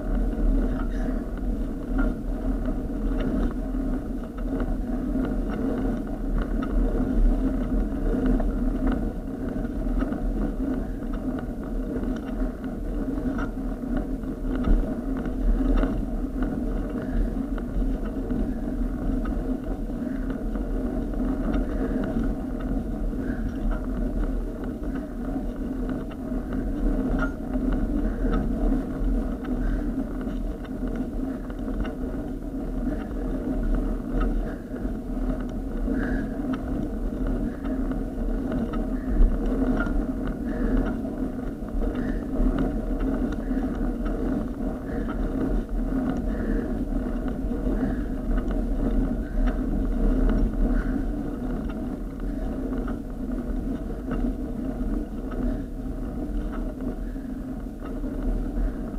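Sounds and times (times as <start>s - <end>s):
bicycle rumbling on rough tarmac: 0.0s - 58.9s.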